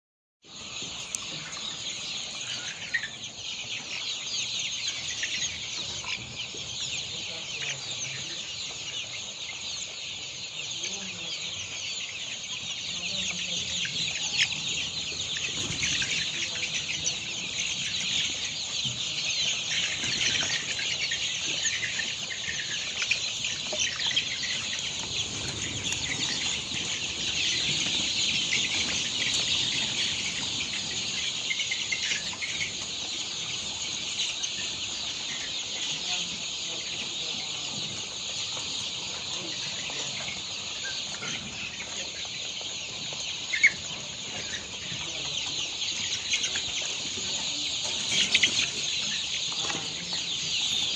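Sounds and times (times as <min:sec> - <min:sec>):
chickens cheeping and clucking: 0:00.4 - 0:50.9.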